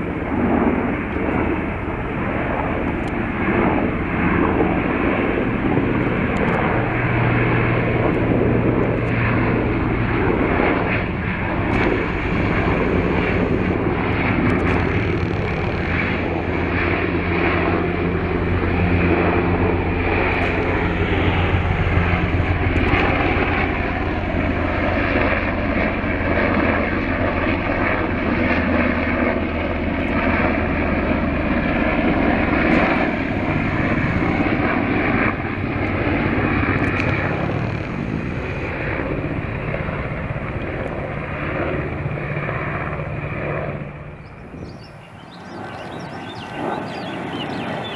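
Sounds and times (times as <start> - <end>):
turboprop aircraft droning overhead: 0.0 - 47.9.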